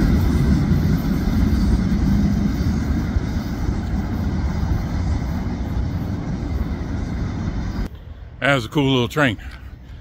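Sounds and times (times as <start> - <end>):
train cars rolling on rails: 0.0 - 10.0.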